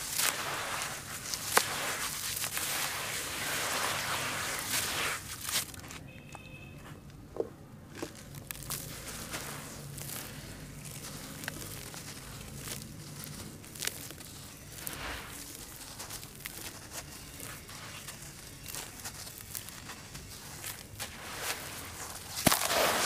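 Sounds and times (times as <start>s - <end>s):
crumbs dropping into slurry: 0.0s - 6.0s, 7.9s - 23.0s
wet ash crumbled by hand: 0.0s - 6.0s, 7.9s - 23.0s.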